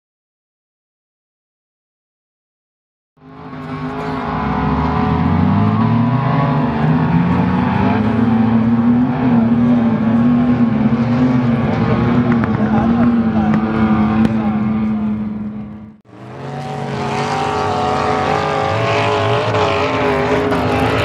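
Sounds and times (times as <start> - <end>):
off-road engine revving high: 3.2 - 21.0.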